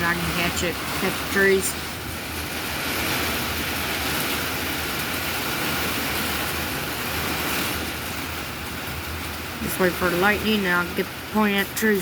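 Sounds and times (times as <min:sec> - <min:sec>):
gusting wind on microphone: 0:00.0 - 0:10.4
heavy rain falling: 0:00.0 - 0:12.0.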